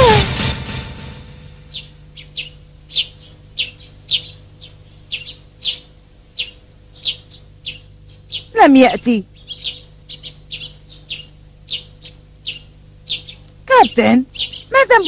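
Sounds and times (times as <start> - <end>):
faint steady hum: 0.0 - 15.0
songbirds chirping: 1.7 - 15.0.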